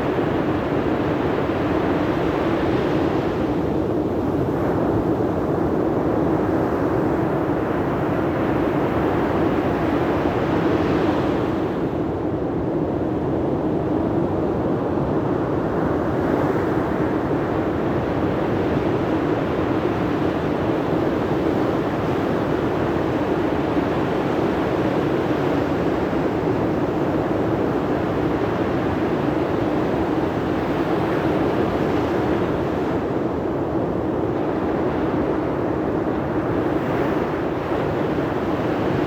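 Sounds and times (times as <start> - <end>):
wind: 0.0 - 39.0.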